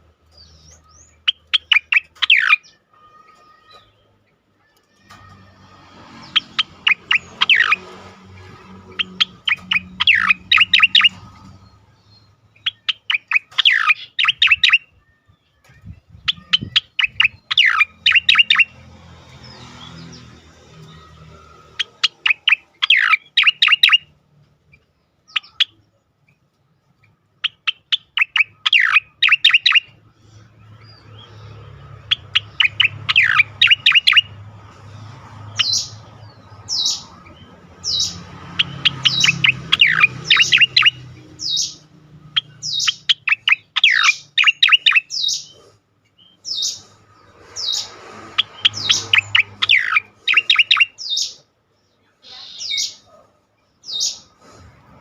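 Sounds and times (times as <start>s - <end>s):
bird singing rapid notes: 0.0s - 54.4s.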